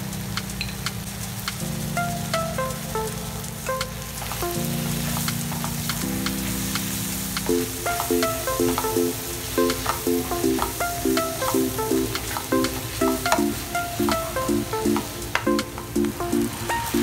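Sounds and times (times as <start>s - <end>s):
background music: 0.0s - 17.0s
onions sizzling in a pan: 0.0s - 17.0s.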